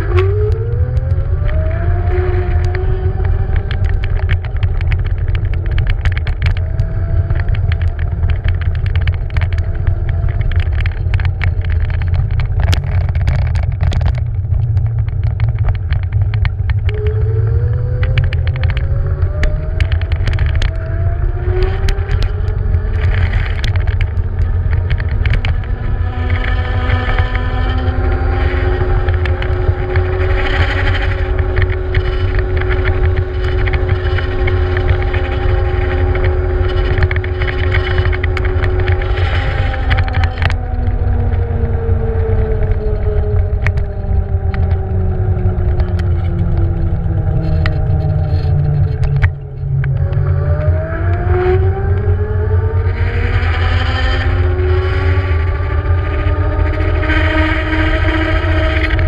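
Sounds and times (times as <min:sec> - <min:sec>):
scooter rattling over paving joints: 0:00.0 - 0:59.0
scooter rumble: 0:00.0 - 0:59.0.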